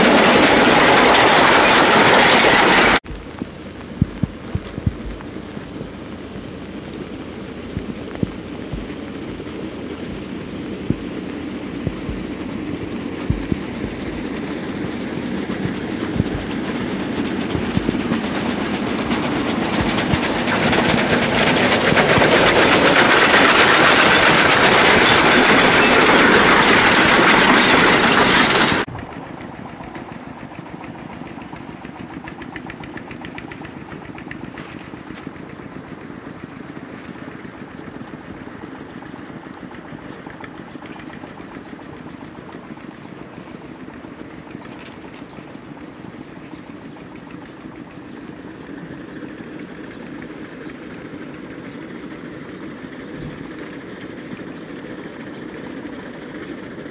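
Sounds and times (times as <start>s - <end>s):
steam locomotive passing: 0.0s - 56.9s
tractor engine: 0.0s - 56.9s.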